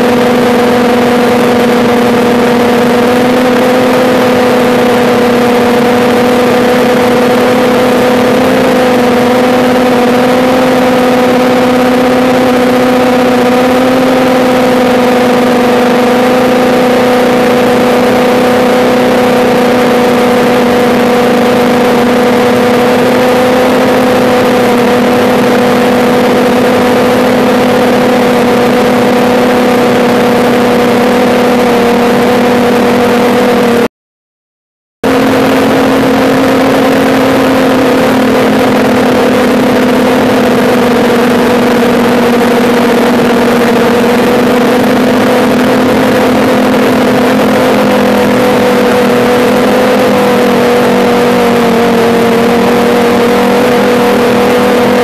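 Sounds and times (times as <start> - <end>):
drone motors humming: 0.0 - 33.9, 35.0 - 55.0.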